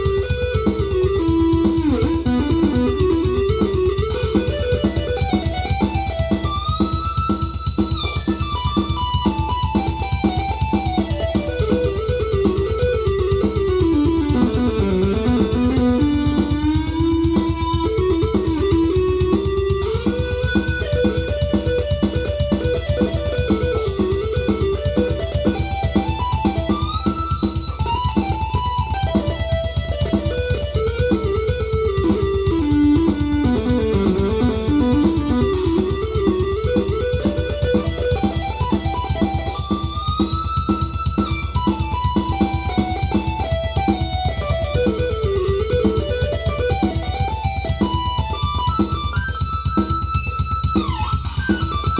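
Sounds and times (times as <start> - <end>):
fast rhythmic backing: 0.0 - 51.9
synthesizer guitar-like lead: 0.0 - 51.9.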